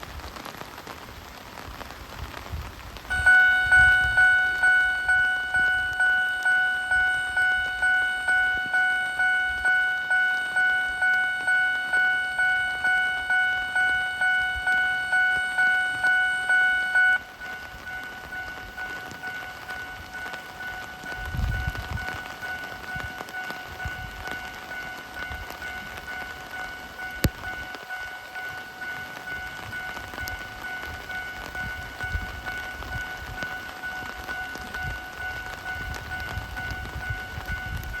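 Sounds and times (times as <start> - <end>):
level-crossing warning bell: 3.0 - 38.0.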